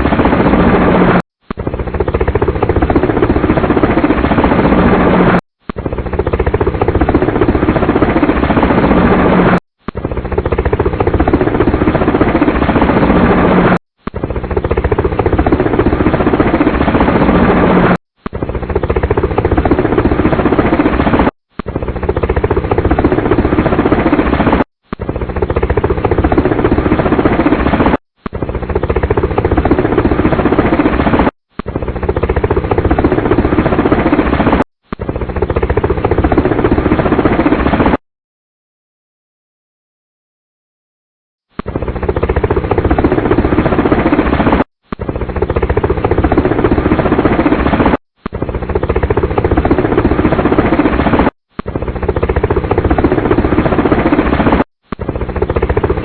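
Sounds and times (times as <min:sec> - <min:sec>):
helicopter rotor and engine: 0:00.0 - 0:38.0, 0:41.5 - 0:56.0.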